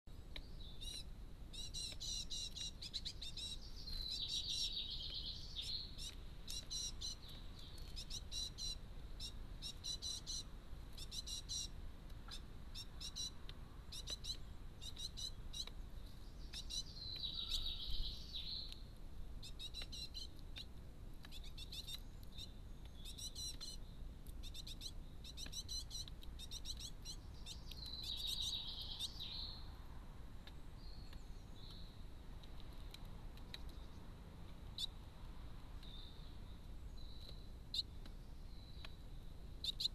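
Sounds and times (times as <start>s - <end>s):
songbird chirping and trilling: 0.1s - 39.9s.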